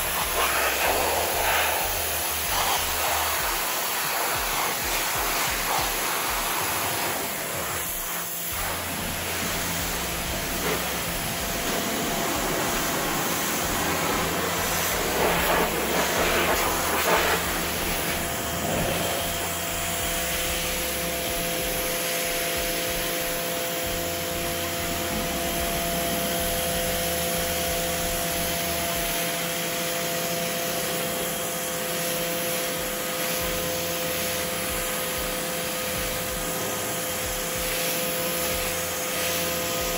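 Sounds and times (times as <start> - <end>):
pressure washer jet hissing: 0.0 - 39.9
steady hum: 0.0 - 39.9.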